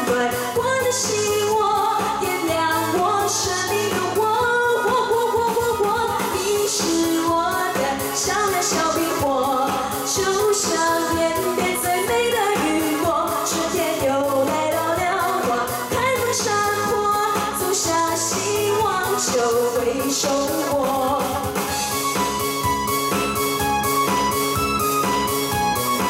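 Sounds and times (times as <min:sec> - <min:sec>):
woman singing into a microphone: 0:00.0 - 0:22.0
upbeat pop backing music: 0:00.0 - 0:26.0.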